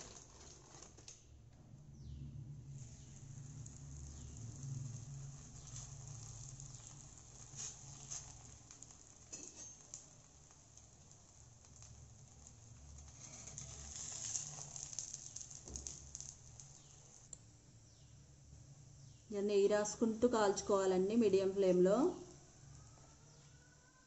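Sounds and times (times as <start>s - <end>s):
ghee sizzling and crackling: 0.0s - 1.1s, 2.4s - 24.0s.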